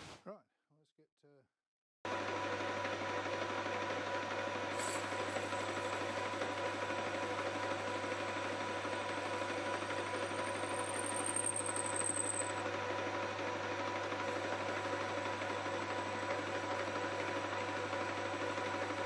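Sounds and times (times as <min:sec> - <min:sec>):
metal lathe running: 0:02.2 - 0:19.0.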